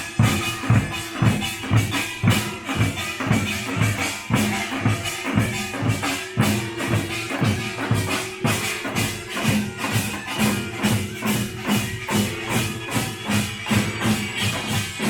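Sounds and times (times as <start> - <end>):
drums beating: 0.0 - 15.0
metal percussion: 0.0 - 15.0.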